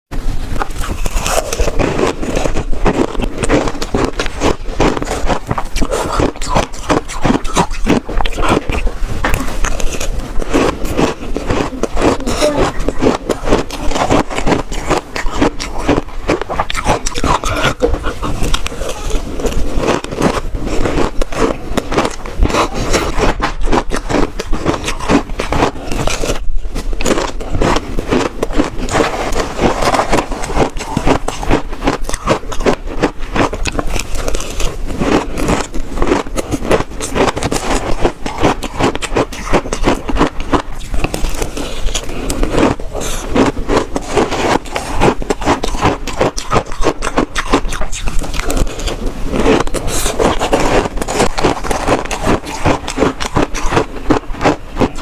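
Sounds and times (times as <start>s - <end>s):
chewing crunchy ice: 0.2s - 55.0s.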